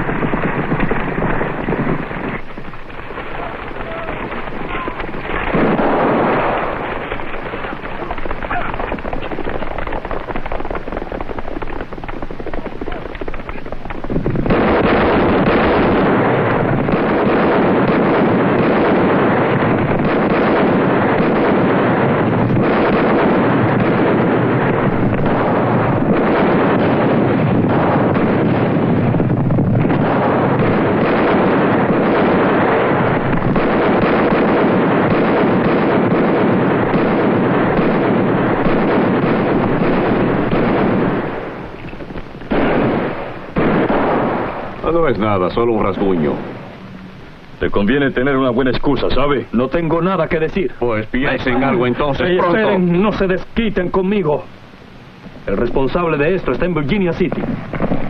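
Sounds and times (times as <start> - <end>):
horses galloping: 0.0 - 46.8
dense steady rushing noise: 0.0 - 58.0.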